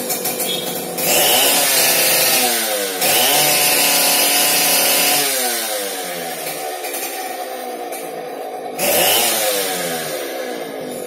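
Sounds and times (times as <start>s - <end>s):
small petrol engine revving: 0.0s - 11.0s.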